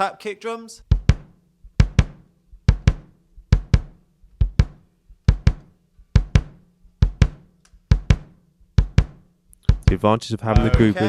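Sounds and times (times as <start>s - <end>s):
kick drum double taps: 0.9s - 10.9s.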